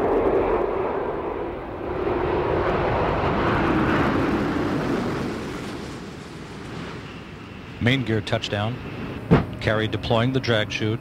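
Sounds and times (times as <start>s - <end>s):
rushing roar of air: 0.0s - 10.1s.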